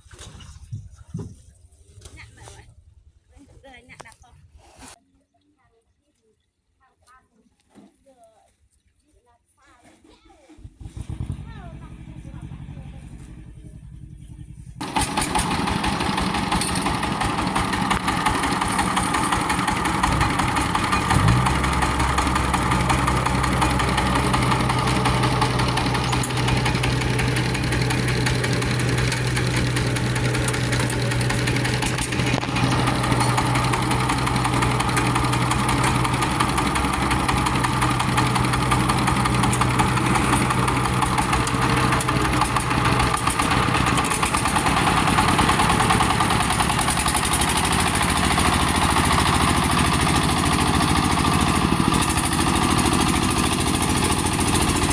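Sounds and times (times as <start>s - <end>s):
harvester diesel engine running: 10.6s - 54.9s.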